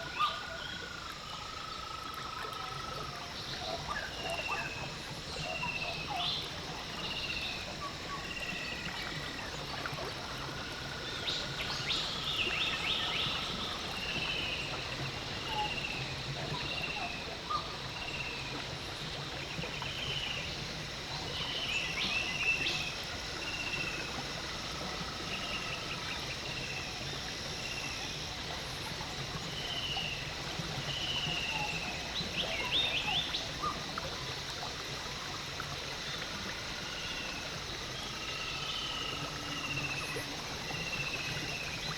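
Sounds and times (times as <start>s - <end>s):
water noise: 0.0s - 41.9s.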